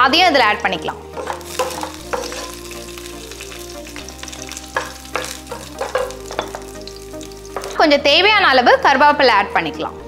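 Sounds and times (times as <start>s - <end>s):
spices sizzling in oil: 0.1s - 8.7s.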